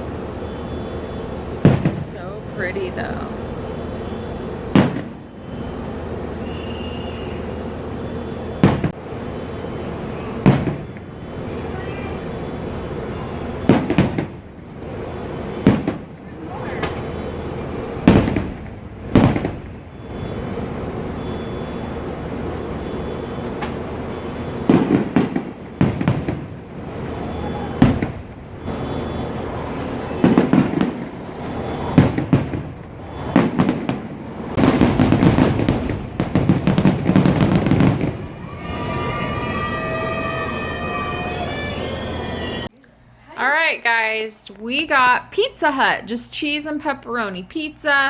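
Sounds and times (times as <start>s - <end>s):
distant fireworks booming and crackling: 0.0s - 42.7s.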